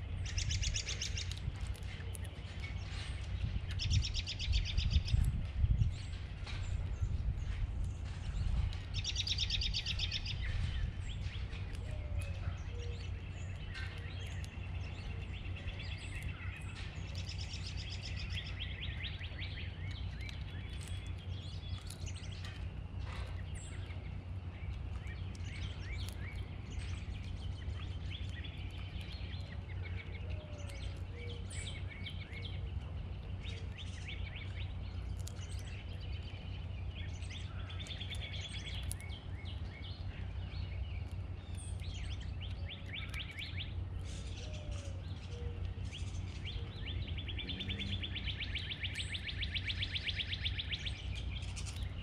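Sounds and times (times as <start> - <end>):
low background rumble: 0.0 - 52.0
songbirds singing and trilling: 0.0 - 52.0.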